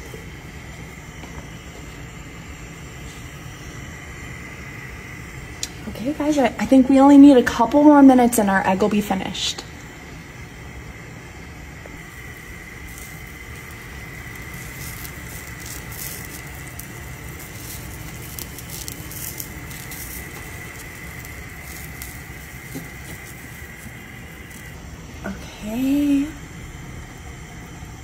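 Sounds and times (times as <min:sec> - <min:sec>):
water boiling and bubbling: 0:00.0 - 0:28.0.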